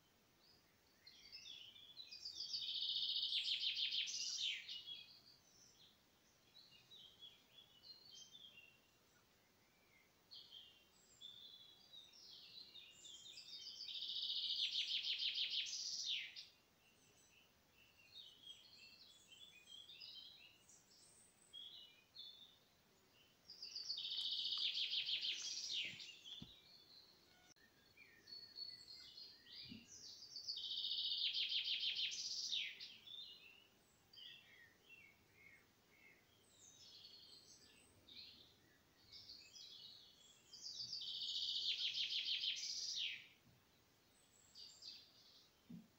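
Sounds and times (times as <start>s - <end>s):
songbird trilled song: 0.0s - 45.9s.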